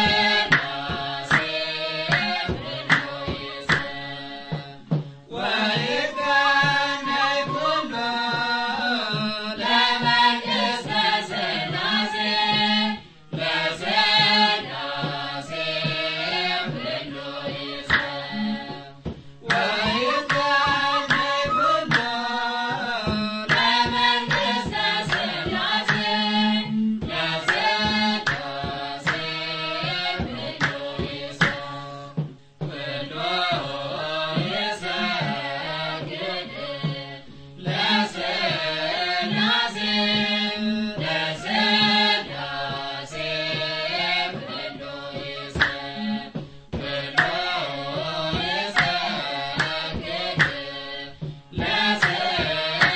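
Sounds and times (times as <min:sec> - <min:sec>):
steady drum beat: 0:00.0 - 0:37.1, 0:37.7 - 0:52.9
hymn singing: 0:00.0 - 0:52.9.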